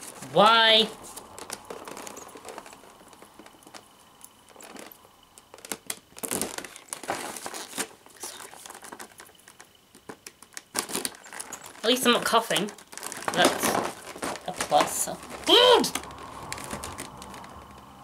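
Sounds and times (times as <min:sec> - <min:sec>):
packaging crinkling: 0:00.0 - 0:18.0
small crackles and ticks: 0:00.0 - 0:18.0
packaging tape peeling: 0:01.0 - 0:03.8, 0:04.4 - 0:17.9.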